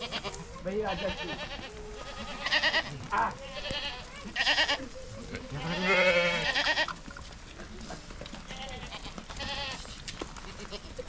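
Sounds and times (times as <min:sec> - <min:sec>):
sheep bleating: 0:00.0 - 0:07.0, 0:08.5 - 0:11.0.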